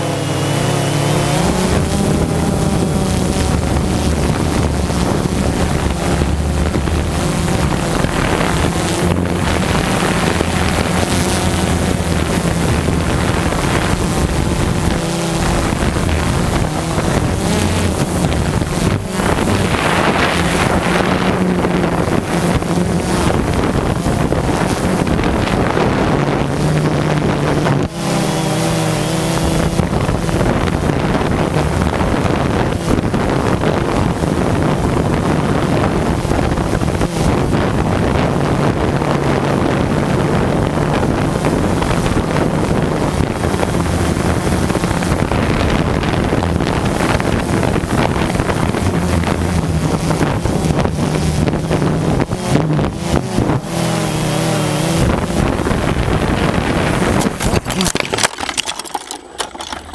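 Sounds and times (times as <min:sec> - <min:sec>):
motor hum: 0:00.0 - 0:59.9
wind noise on microphone: 0:00.0 - 0:59.9.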